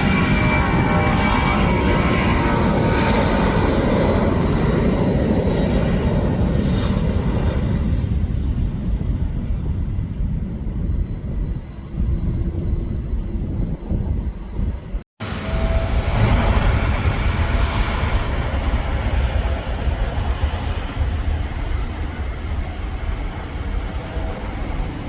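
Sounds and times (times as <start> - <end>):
jet aircraft engines: 0.0 - 25.0.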